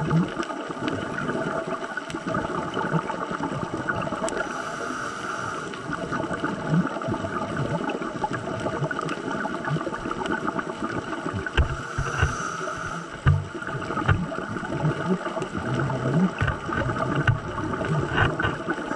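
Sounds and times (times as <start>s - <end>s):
underwater hum: 0.0s - 18.9s
crackling clicks: 0.2s - 7.0s, 7.8s - 18.9s.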